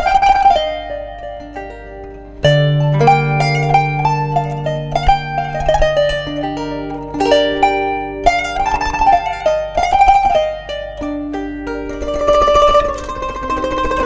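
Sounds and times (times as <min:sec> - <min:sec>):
plucked zither melody: 0:00.0 - 0:14.0.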